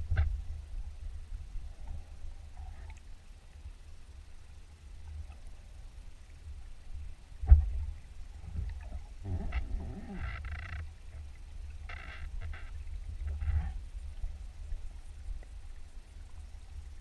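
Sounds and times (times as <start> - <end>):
low underwater rumble: 0.0 - 17.0.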